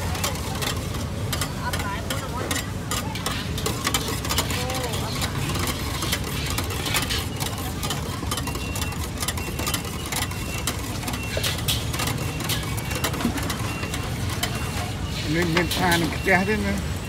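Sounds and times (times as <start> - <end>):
sharp clicks and clatter: 0.0 - 16.8.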